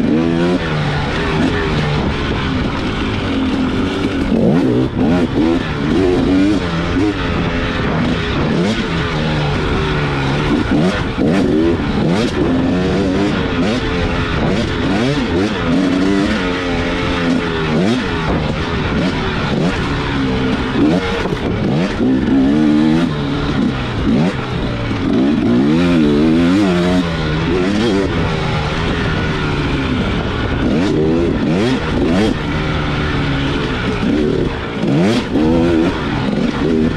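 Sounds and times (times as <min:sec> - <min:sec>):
dirt bike engine racing: 0:00.0 - 0:36.9.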